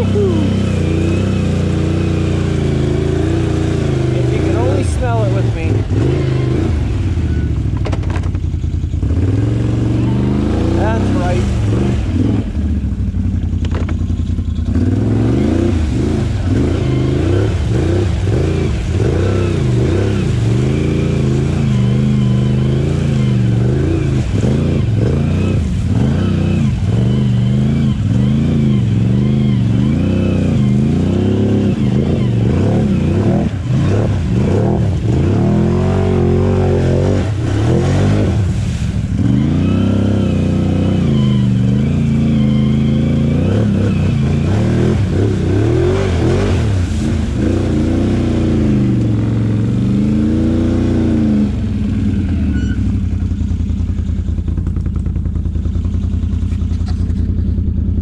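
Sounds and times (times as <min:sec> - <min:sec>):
atv engine revving under load: 0:00.0 - 0:58.0.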